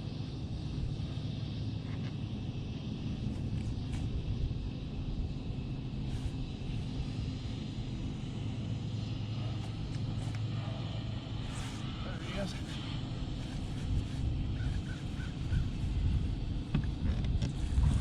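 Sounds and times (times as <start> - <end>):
low motor drone: 0.0 - 18.0.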